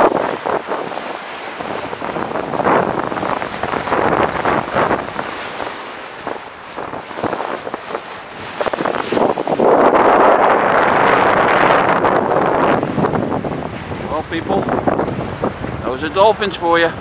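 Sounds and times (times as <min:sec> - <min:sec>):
sea water rushing along hull: 0:00.0 - 0:17.0
wind buffeting microphone: 0:00.0 - 0:17.0.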